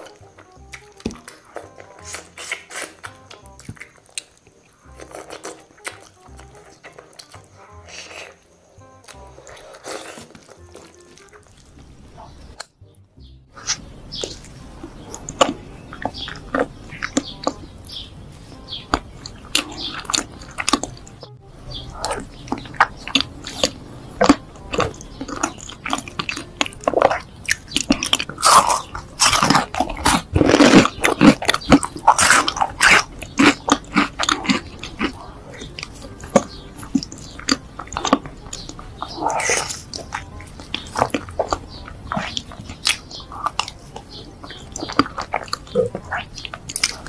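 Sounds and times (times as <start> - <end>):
biting and chewing cake: 0.0 - 12.8, 13.5 - 47.0.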